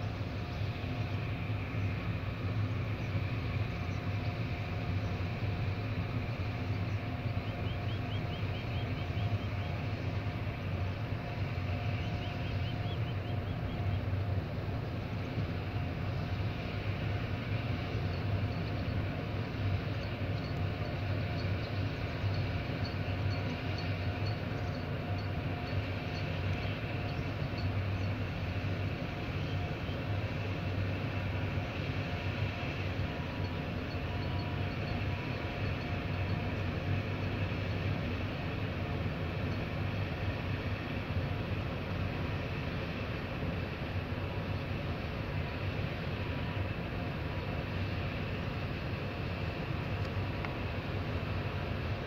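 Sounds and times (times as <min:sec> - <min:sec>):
faint steady tones: 0:00.0 - 0:52.0
ship engines humming: 0:00.0 - 0:52.0.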